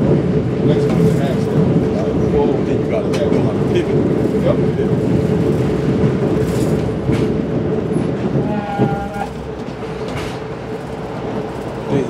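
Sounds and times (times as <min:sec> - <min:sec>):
train running hum: 0:00.0 - 0:12.0.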